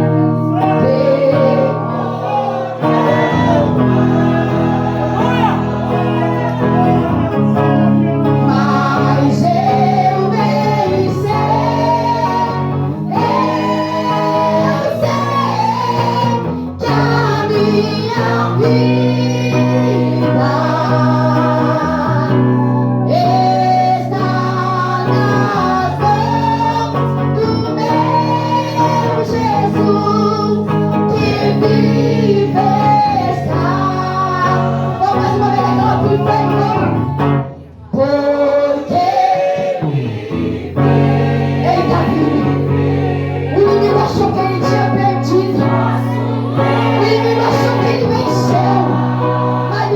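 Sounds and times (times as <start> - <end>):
long held bass notes: 0.0 - 37.7, 39.9 - 49.9
guitar: 0.0 - 49.9
person singing worship song: 0.0 - 49.9.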